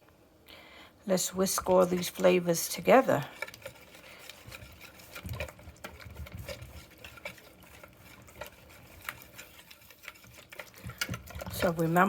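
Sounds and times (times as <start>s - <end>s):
whisking marinade in a bowl: 1.2s - 12.0s.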